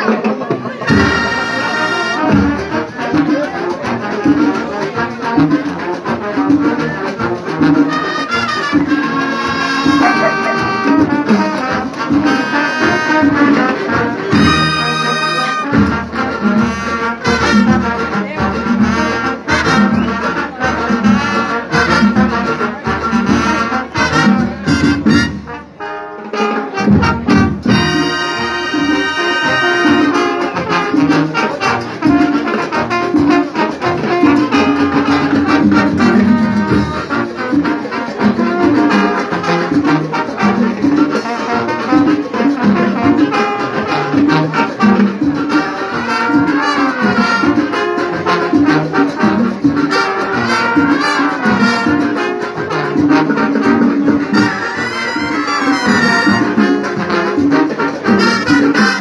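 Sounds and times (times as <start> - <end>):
brass band playing latin tune: 0.0 - 59.0
steady drum beat: 0.4 - 25.7, 26.8 - 59.0.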